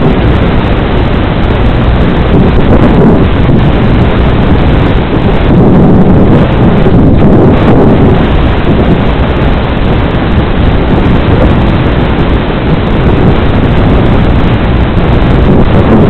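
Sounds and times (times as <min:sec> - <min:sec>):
static hiss: 0:00.0 - 0:16.0
wind rush: 0:00.0 - 0:16.0.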